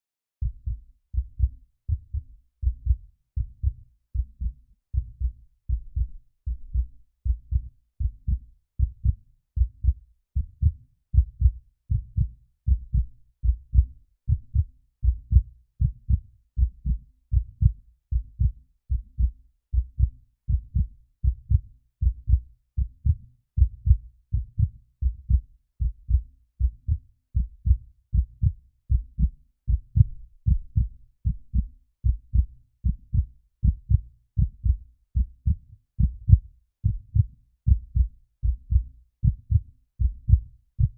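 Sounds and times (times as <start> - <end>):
heartbeat thumps: 0.4 - 40.9.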